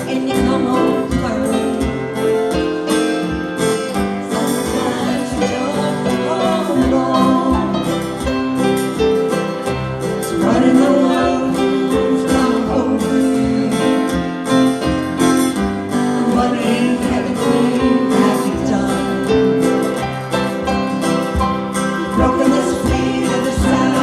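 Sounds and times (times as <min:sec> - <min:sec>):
person singing: 0:00.0 - 0:08.6, 0:10.1 - 0:15.3, 0:15.9 - 0:20.8, 0:21.8 - 0:24.0
acoustic string band playing: 0:00.0 - 0:24.0
guitar strumming: 0:00.0 - 0:24.0.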